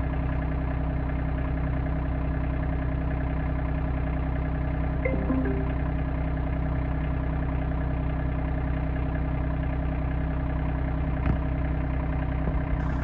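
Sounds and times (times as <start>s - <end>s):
tractor diesel engine running: 0.0s - 4.9s, 5.8s - 13.0s.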